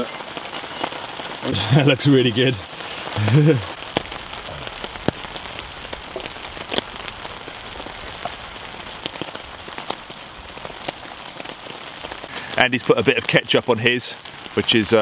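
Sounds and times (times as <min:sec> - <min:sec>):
heavy rain hissing: 0:00.0 - 0:15.0
raindrops tapping: 0:00.0 - 0:15.0.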